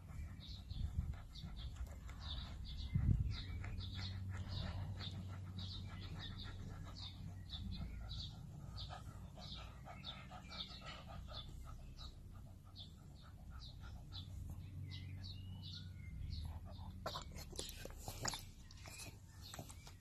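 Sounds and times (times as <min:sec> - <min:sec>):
dog breathing quickly: 0:00.0 - 0:20.0.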